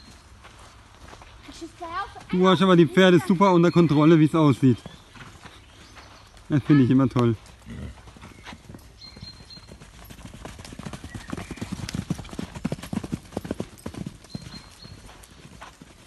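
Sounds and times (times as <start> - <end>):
horse hoofbeats on sand: 0.0 - 16.0.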